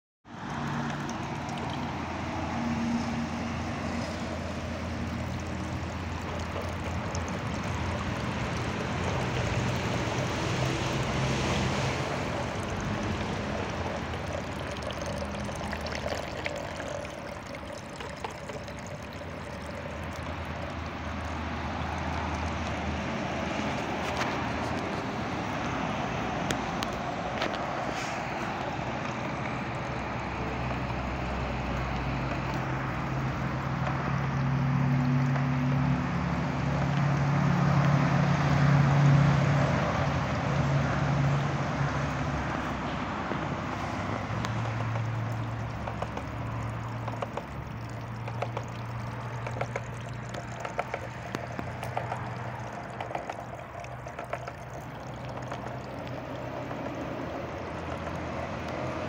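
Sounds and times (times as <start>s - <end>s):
fountain water trickling and splashing: 0.3s - 59.0s.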